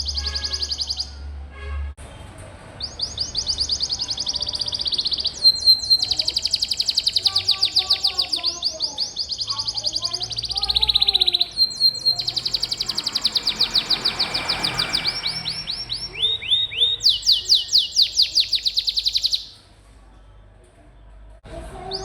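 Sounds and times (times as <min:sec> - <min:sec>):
canary singing trills: 0:00.0 - 0:01.2, 0:02.8 - 0:19.6.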